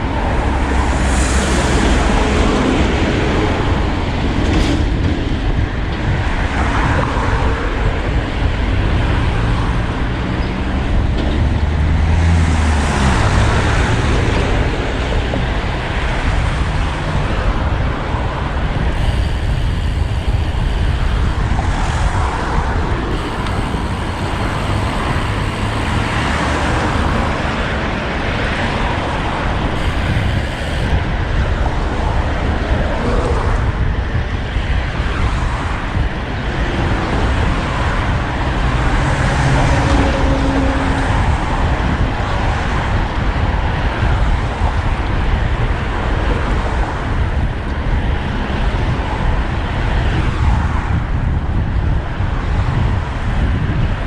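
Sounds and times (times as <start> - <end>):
heavy low rumble: 0.0 - 54.0
road traffic: 0.0 - 54.0.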